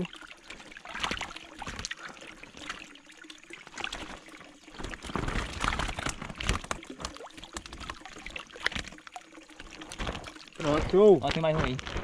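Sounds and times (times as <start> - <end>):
small splashes: 0.0 - 12.0
water pouring into pond: 0.0 - 12.0.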